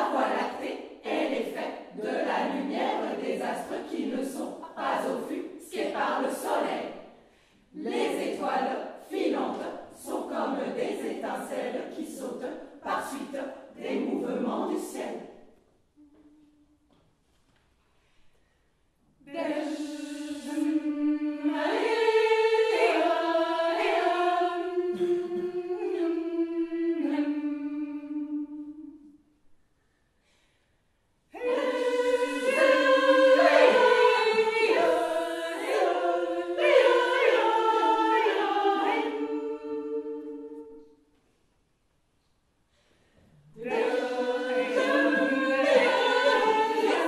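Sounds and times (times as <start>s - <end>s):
female vocal ensemble singing chords: 0.0s - 16.4s, 19.2s - 29.3s, 31.3s - 41.1s, 43.5s - 47.0s.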